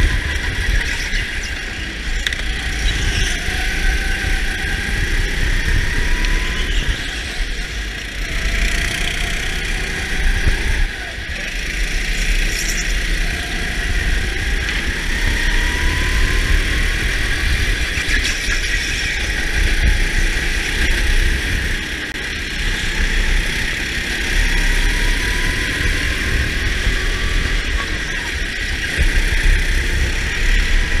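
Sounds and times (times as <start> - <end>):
go-kart motor accelerating: 0.0 - 31.0.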